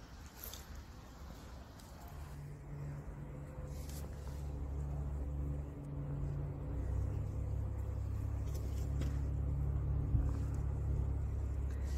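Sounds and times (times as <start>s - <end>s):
car engine running: 2.2s - 11.9s.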